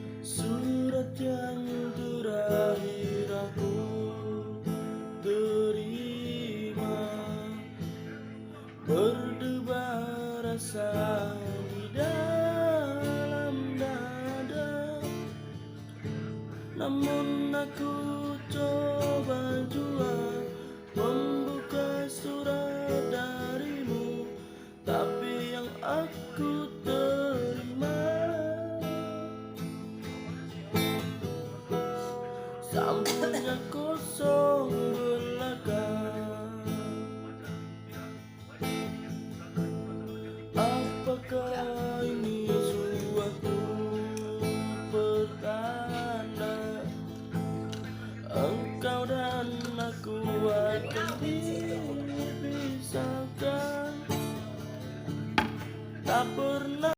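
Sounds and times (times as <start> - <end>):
acoustic guitar strumming: 0.0 - 56.9
person singing: 0.0 - 56.9.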